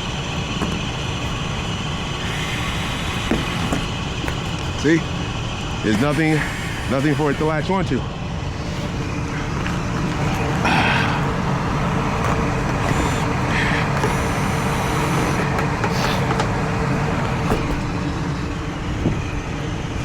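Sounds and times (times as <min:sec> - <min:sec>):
hvac unit droning: 0:00.0 - 0:20.0.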